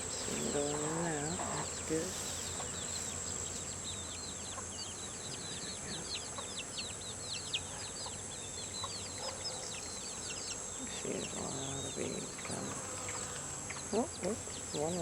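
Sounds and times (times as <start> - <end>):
honeybees humming: 0.0 - 15.0
small birds chirping: 0.0 - 15.0.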